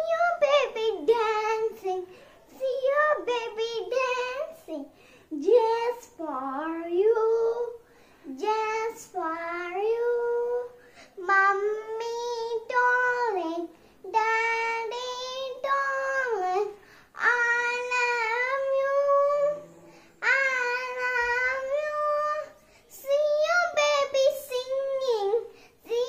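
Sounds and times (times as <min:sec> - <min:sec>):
girl singing unaccompanied: 0:00.0 - 0:26.0.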